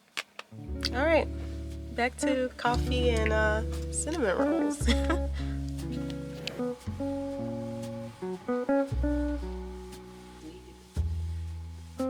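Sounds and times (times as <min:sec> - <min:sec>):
acoustic guitar with bass: 0:00.6 - 0:12.0.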